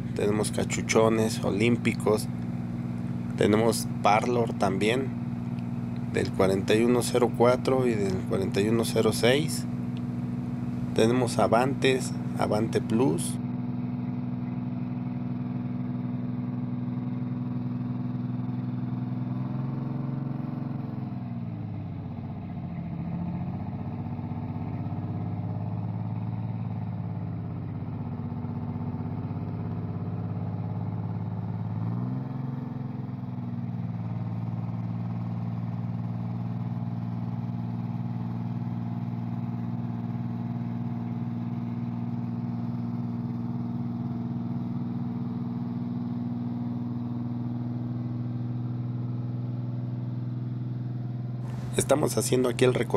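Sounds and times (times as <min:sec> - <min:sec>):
bus engine idling: 0:00.0 - 0:19.0, 0:21.4 - 0:52.9.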